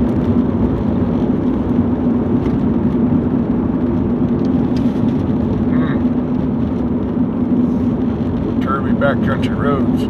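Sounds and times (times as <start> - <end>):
road and engine noise in car: 0.0 - 10.0.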